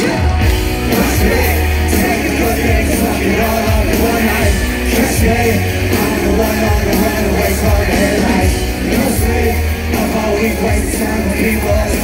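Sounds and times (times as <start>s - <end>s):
heavy bass: 0.0s - 12.0s
live rock band: 0.0s - 12.0s
vocals: 0.0s - 12.0s.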